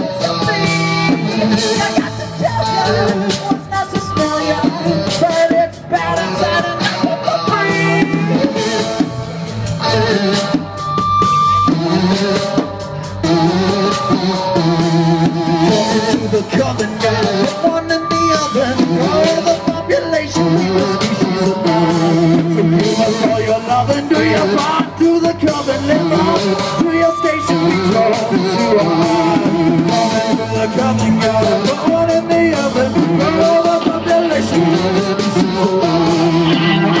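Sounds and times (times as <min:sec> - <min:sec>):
person singing: 0:00.0 - 0:37.0
rock band playing: 0:00.0 - 0:37.0.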